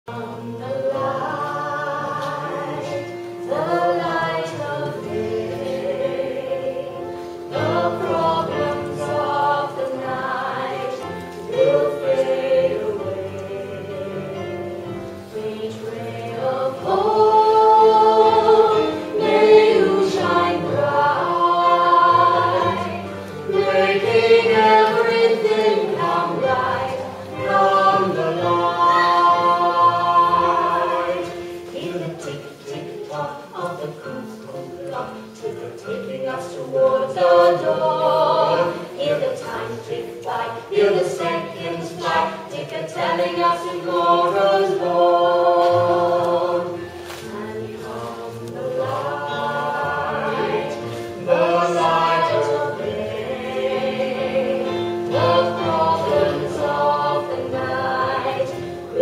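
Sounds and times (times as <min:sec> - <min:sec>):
group singing a musical song: 0:00.0 - 0:59.0.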